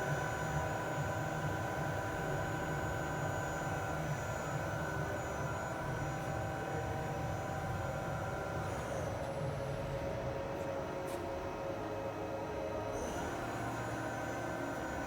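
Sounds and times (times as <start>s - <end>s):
lathe machine hum and rumble: 0.0s - 15.0s.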